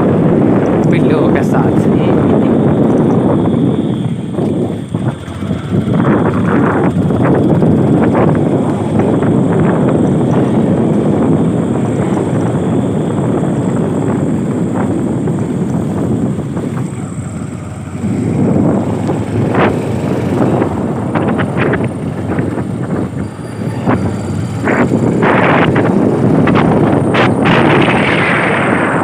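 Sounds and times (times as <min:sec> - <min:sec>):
moving vehicle running noise: 0:00.0 - 0:29.0
wind buffeting microphone: 0:00.0 - 0:29.0.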